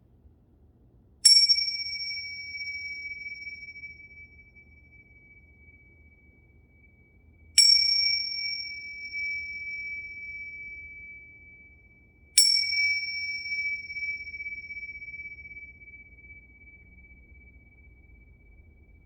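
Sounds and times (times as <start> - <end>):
tingsha cymbals ringing: 1.2 - 19.0.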